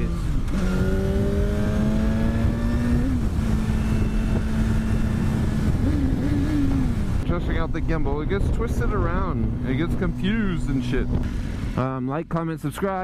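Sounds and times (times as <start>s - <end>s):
motorcycle engine: 0.0s - 12.0s
wind noise: 0.1s - 11.9s.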